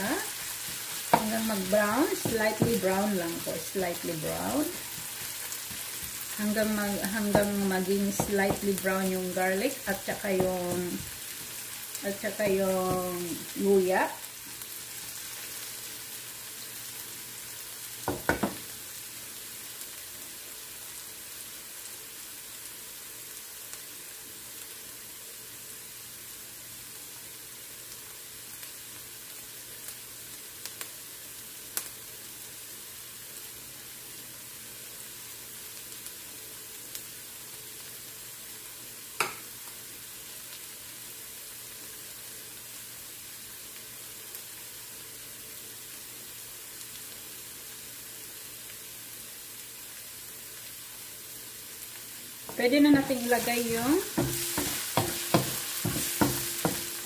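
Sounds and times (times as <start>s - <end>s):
garlic sizzling in hot oil: 0.0s - 57.0s.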